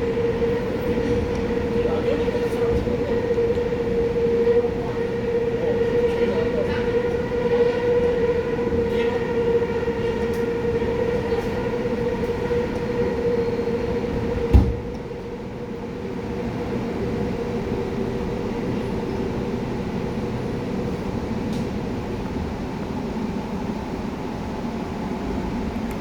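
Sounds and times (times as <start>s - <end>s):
rumbling rail noise: 0.0s - 26.0s
subway train motor whine: 0.0s - 26.0s.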